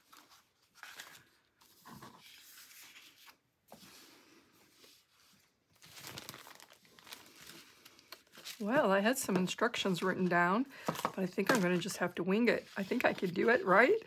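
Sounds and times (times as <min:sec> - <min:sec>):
paper rustling and sliding: 0:00.0 - 0:08.6, 0:10.9 - 0:14.0.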